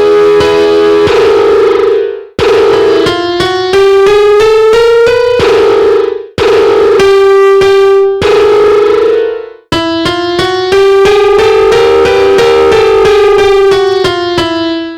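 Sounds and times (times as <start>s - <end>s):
software piano notes: 0.0s - 14.9s.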